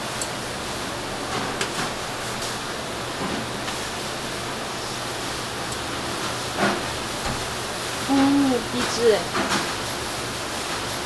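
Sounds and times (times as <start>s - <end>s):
rushing kitchen noise: 0.0s - 11.0s.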